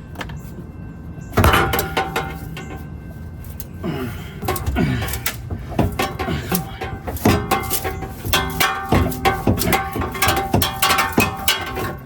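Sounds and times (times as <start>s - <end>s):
loud ringing metal clang: 1.2s - 12.0s
metal clanks and knocks: 1.2s - 12.0s.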